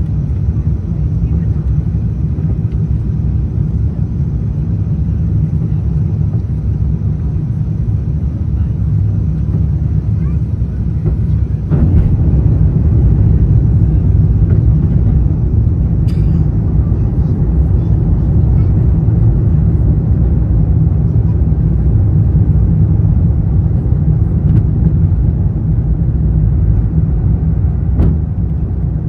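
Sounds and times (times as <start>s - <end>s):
airplane cabin engine rumble: 0.0s - 29.0s.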